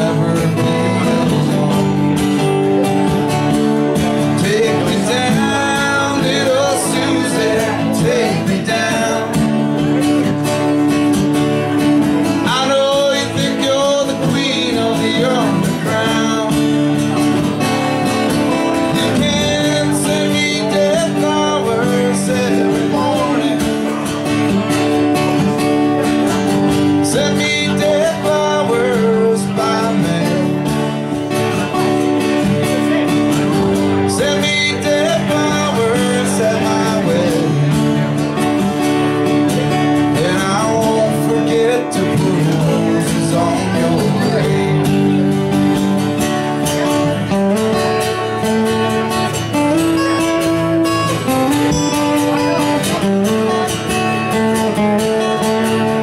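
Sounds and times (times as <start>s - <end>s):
acoustic guitars playing: 0.0s - 56.0s
man singing: 0.0s - 56.0s.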